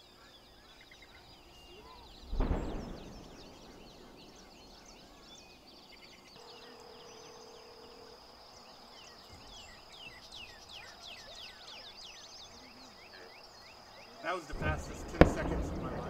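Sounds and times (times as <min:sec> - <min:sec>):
birds chirping: 0:00.0 - 0:16.0
faint low hum: 0:00.0 - 0:16.0
high insect trill: 0:00.0 - 0:16.0.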